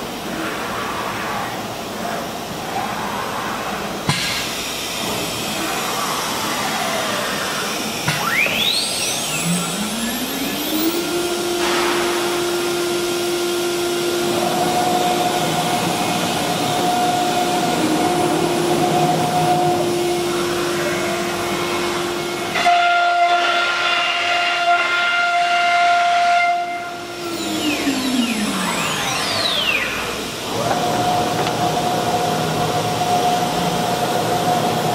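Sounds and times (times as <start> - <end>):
workshop machinery hiss: 4.0 - 34.9
router spindle whining: 5.0 - 24.5, 26.4 - 34.9.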